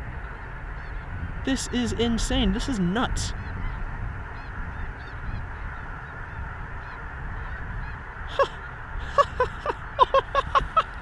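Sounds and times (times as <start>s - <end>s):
distant chorus of geese calls: 0.0s - 11.0s
geese honking nearby: 0.0s - 11.0s.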